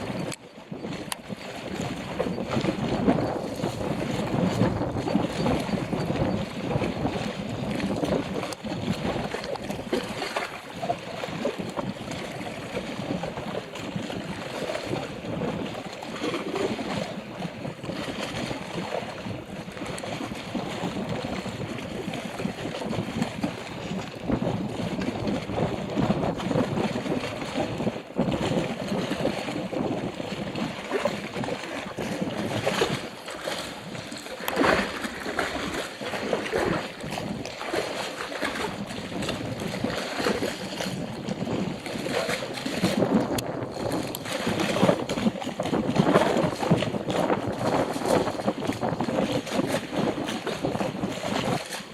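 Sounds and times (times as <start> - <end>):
water lapping and splashing: 0.0 - 51.9
wind buffeting microphone: 0.0 - 51.9.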